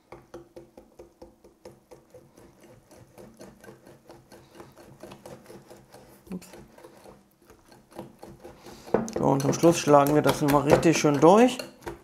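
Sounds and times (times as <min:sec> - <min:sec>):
whisk beating batter in glass bowl: 0:01.0 - 0:12.0.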